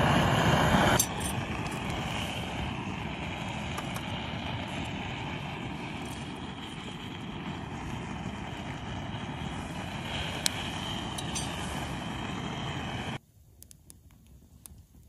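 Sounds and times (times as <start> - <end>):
gas torch jetting: 0.0 - 13.2
wood fire crackling: 0.0 - 15.0.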